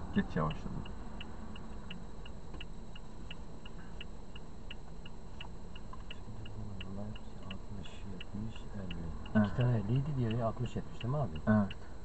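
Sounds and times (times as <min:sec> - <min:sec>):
turn signal clicking: 0:00.0 - 0:11.8
engine and road hum: 0:00.0 - 0:12.0.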